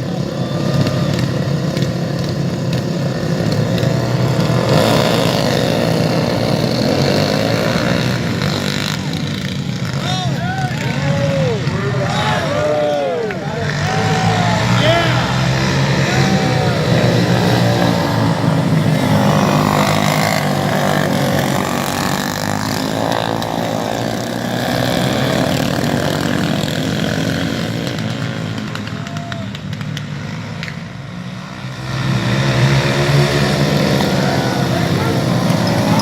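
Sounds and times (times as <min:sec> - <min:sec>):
racing motorcycle engines: 0:00.0 - 0:36.0.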